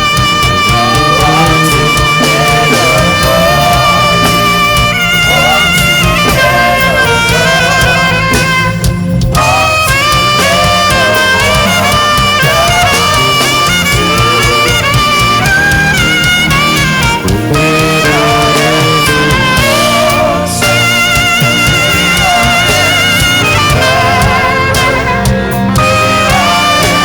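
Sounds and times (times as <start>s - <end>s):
band accompaniment: 0.0s - 27.0s
saxophone playing gospel melody: 0.0s - 27.0s.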